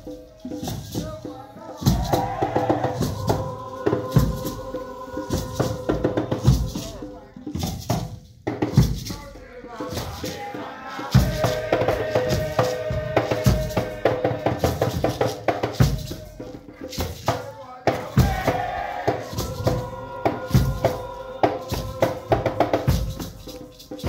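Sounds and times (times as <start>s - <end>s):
group chanting: 0.0s - 7.4s, 9.2s - 24.0s
hand drum beats: 0.0s - 9.2s, 11.1s - 24.0s.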